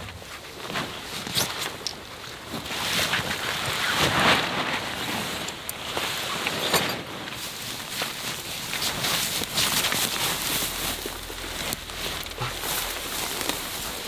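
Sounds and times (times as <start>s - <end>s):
tent fabric rustling: 0.0s - 14.0s.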